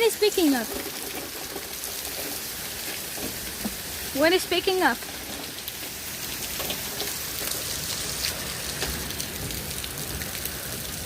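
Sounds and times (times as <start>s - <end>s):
rain falling: 0.0s - 11.0s
sharp raindrop hits: 0.0s - 11.0s
wind: 0.0s - 11.0s.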